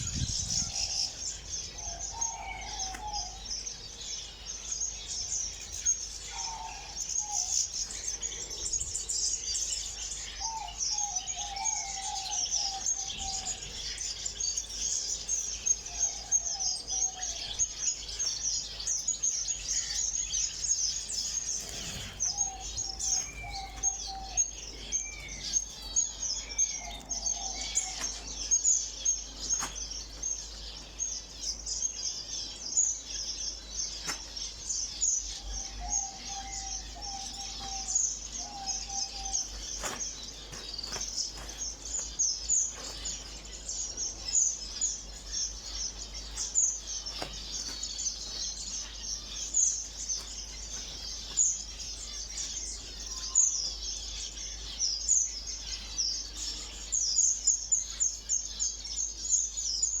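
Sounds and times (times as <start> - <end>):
lower repeated bird notes: 0.0 - 60.0
small birds chirping: 0.0 - 60.0.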